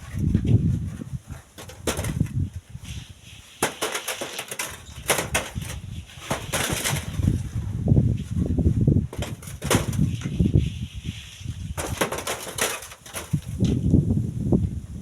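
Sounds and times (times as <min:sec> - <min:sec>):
wind buffeting microphone: 0:00.0 - 0:03.5, 0:04.7 - 0:15.0.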